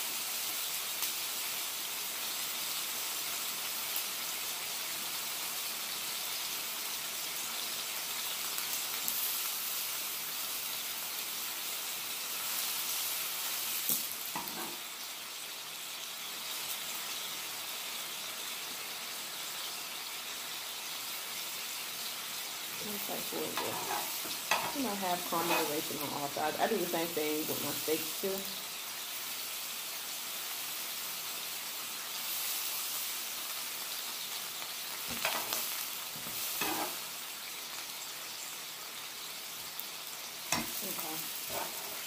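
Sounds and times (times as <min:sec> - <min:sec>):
steak sizzling on a griddle: 0:00.0 - 0:42.0.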